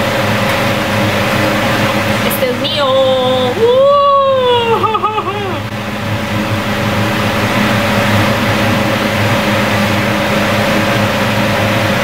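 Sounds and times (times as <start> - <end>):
kitchen machine drone: 0.0 - 12.0.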